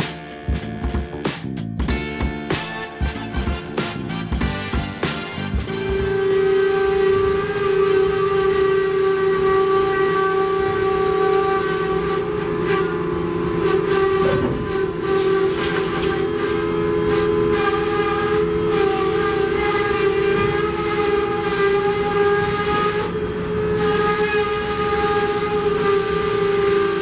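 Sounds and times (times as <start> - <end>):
hopper cars whining: 2.8 - 27.0.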